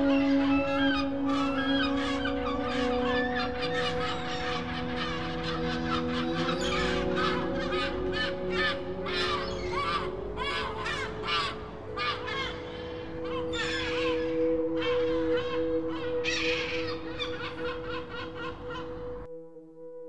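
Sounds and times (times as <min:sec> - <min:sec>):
bird calls overlapping: 0:00.0 - 0:19.3
music with long held chords: 0:00.0 - 0:20.0.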